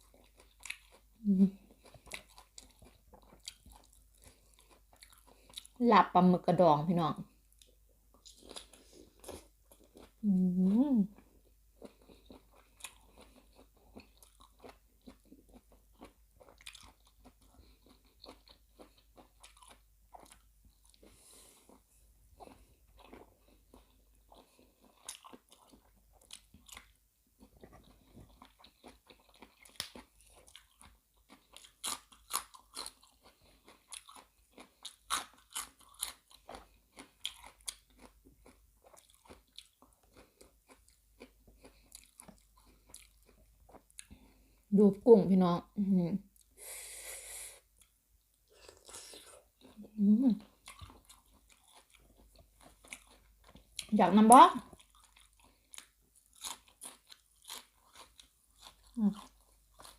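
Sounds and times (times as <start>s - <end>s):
chewing and crunching food: 0.0s - 44.7s, 47.6s - 59.9s.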